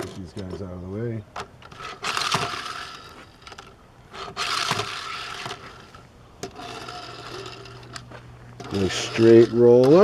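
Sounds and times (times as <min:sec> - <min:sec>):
toy truck rolling and scraping: 0:01.4 - 0:10.0.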